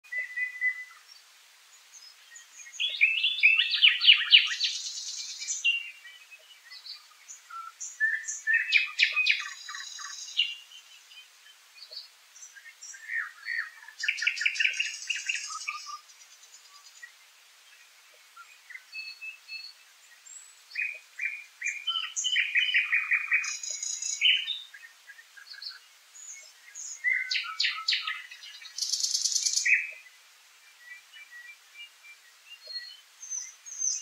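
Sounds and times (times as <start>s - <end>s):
songbird song phrases: 0.0s - 34.0s.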